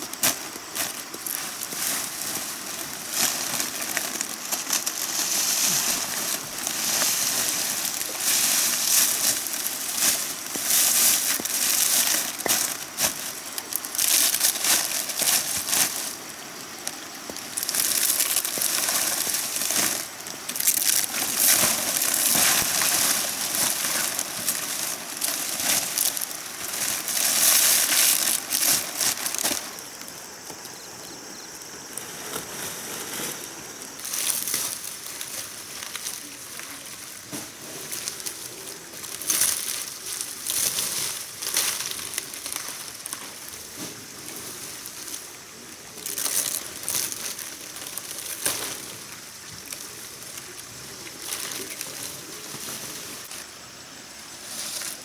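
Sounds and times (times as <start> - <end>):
rustling and crunching: 0.0 - 55.0.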